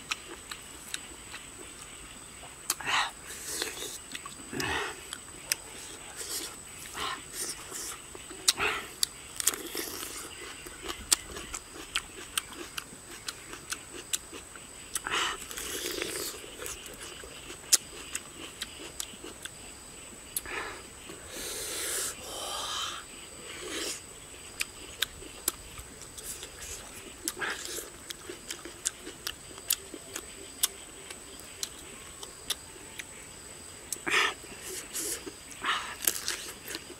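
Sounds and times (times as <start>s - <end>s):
man chewing: 0.0s - 22.2s, 23.4s - 33.2s, 33.9s - 36.9s.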